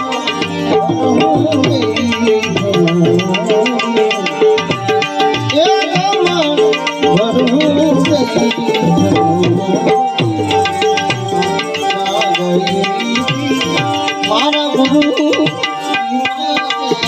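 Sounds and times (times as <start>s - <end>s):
tabla rhythm: 0.0s - 17.0s
wavering melody line: 0.0s - 17.0s.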